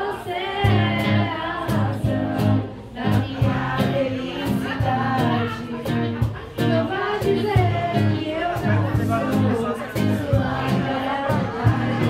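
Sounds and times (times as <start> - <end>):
acoustic guitar: 0.0 - 12.0
women singing together: 0.0 - 12.0.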